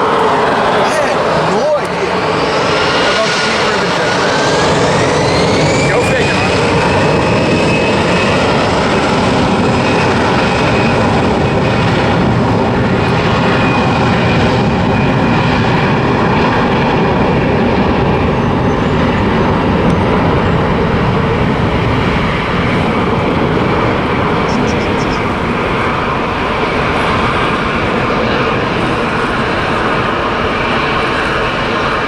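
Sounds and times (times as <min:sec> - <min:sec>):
jet airliner taking off: 0:00.0 - 0:32.0.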